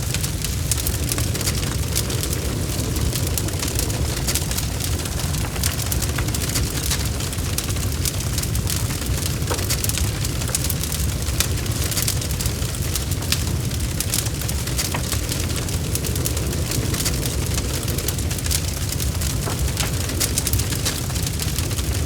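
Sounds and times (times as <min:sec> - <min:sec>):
logs crackling and popping: 0:00.0 - 0:22.0
low rumble of fire: 0:00.0 - 0:22.0.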